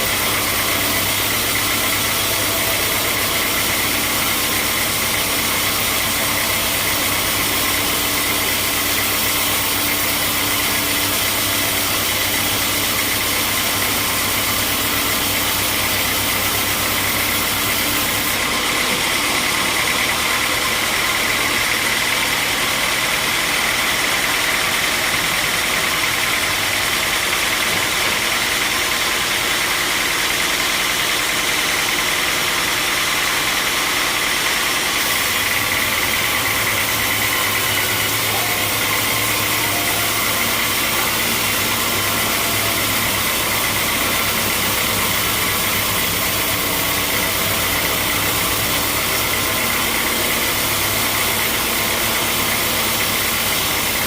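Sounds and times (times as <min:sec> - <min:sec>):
sawmill machinery din: 0:00.0 - 0:54.0.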